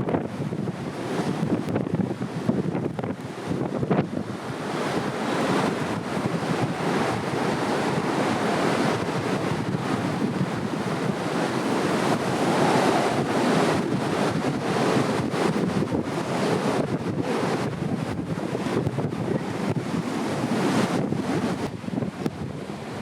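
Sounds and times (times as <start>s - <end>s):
surf breaking on beach: 0.0s - 23.0s
wind buffeting microphone: 0.0s - 23.0s.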